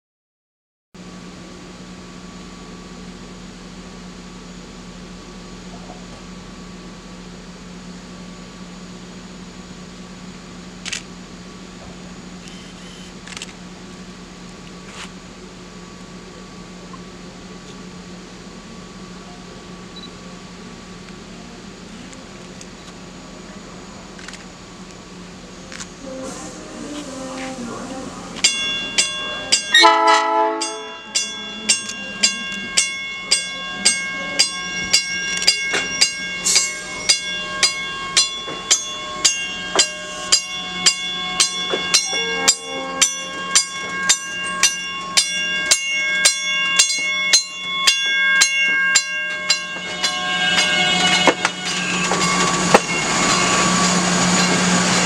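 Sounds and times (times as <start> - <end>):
electric train low hum: 1.0 - 55.0.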